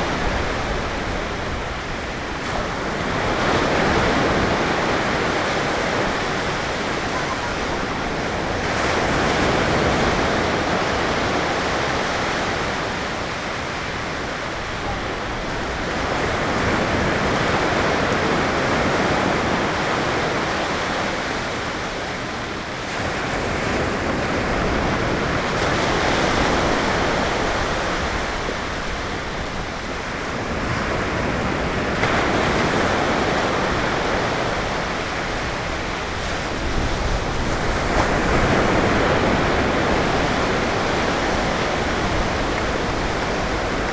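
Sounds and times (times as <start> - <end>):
ocean waves breaking on beach: 0.0 - 43.9.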